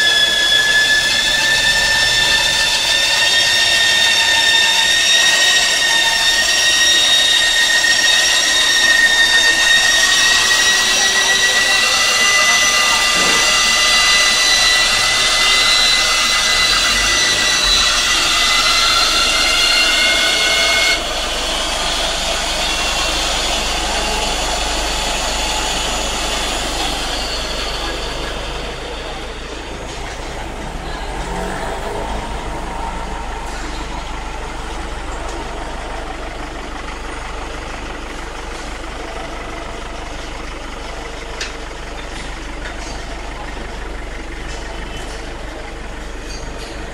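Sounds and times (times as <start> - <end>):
electric motor high whine: 0.0 - 39.5
dull machine noise: 0.0 - 46.9.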